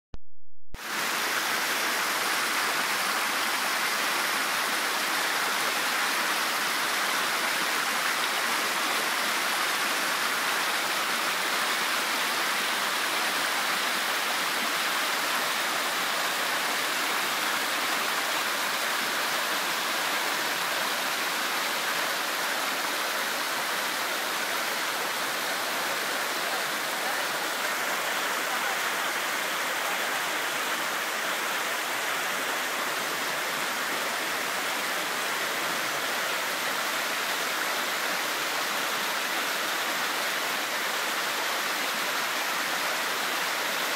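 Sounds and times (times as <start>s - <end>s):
stream rushing over boulders: 0.8s - 43.9s.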